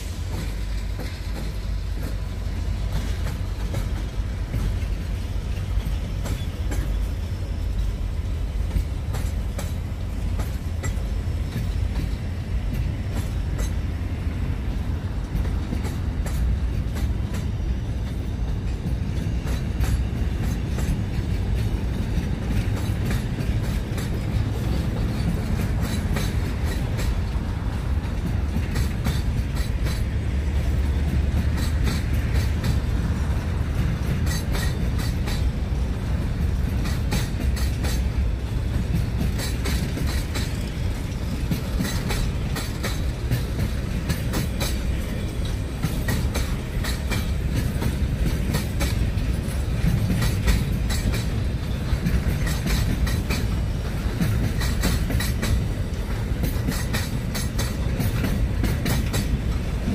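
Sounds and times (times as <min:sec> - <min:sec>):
freight train rumbling past: 0:00.0 - 0:59.9
train wheels clicking: 0:00.0 - 0:59.9.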